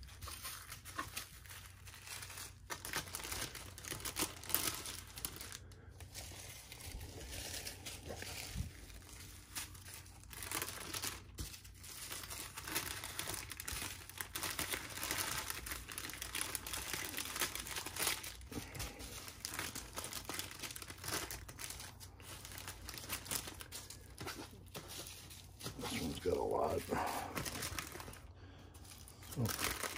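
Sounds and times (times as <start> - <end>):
plastic bags crinkling: 0.0 - 29.9.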